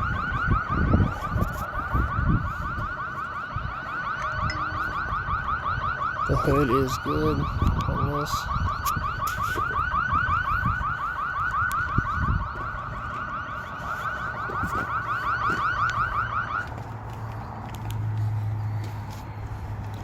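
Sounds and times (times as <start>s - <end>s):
car alarm chirping: 0.0s - 16.6s.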